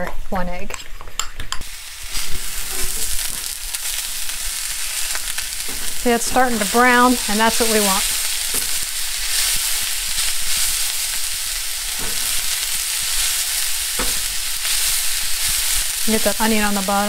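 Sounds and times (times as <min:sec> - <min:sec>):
vegetables sizzling in oil: 0:01.6 - 0:17.0.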